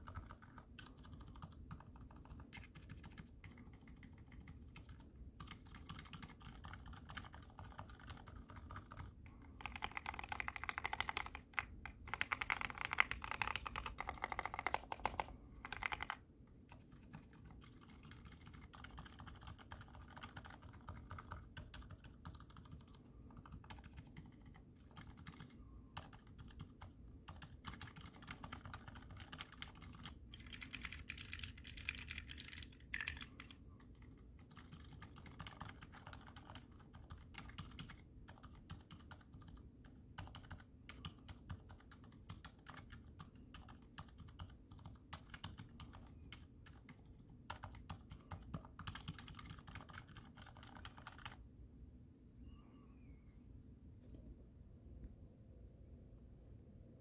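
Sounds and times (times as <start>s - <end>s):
quiet keyboard keystrokes: 0.0s - 51.4s.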